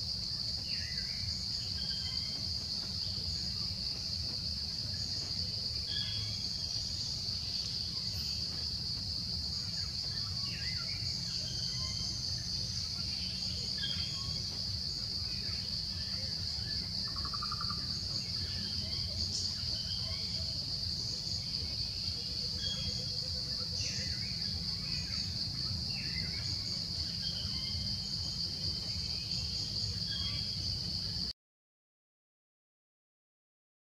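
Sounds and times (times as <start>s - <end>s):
high-pitched insect chorus: 0.0s - 31.3s.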